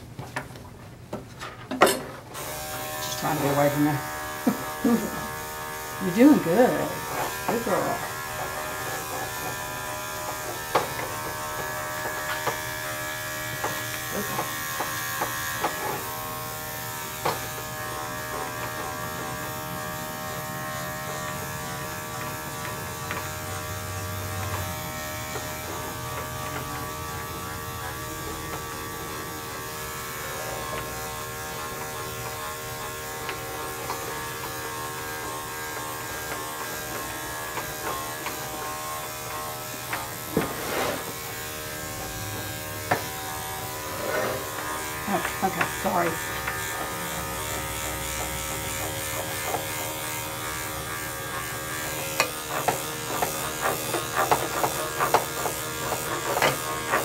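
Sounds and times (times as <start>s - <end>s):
electric clippers buzzing: 2.3s - 57.0s.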